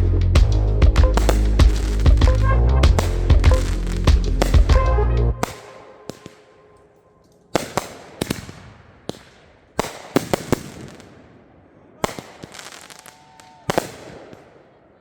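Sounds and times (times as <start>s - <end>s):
fireworks banging and crackling: 0.8s - 6.6s, 7.5s - 11.3s, 12.0s - 14.6s.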